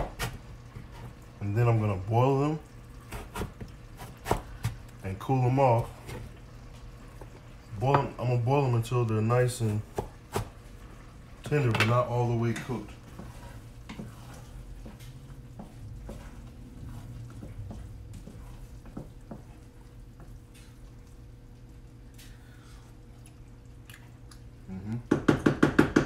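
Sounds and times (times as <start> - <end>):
low steady hum: 0.0 - 25.2.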